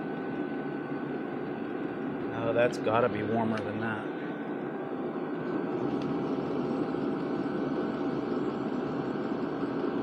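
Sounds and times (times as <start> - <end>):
faint whine: 0.0 - 10.0.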